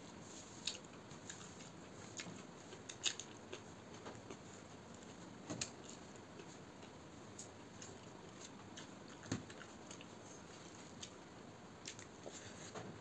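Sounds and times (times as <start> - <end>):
soft chewing and mouth sounds: 0.0 - 13.0.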